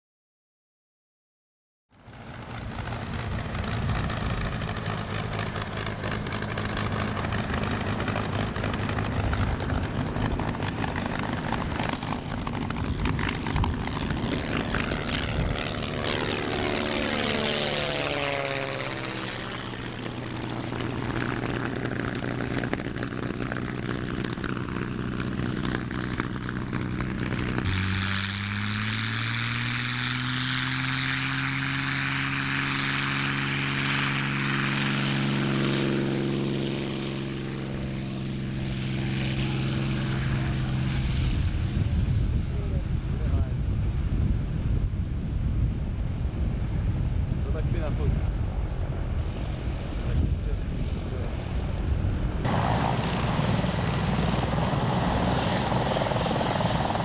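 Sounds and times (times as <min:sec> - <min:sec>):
propeller plane engine droning: 0:01.9 - 0:57.0.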